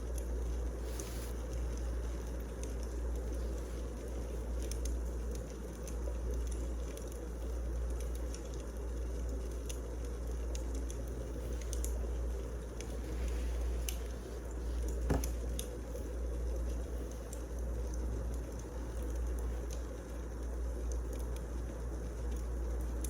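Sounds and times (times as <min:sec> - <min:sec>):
fire crackles and pops: 0:00.0 - 0:23.0
wood fire rumble: 0:00.0 - 0:23.0.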